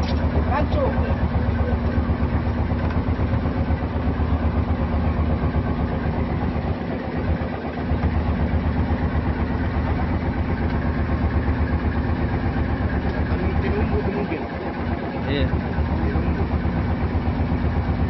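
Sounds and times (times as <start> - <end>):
boat engine throbbing: 0.0 - 18.0.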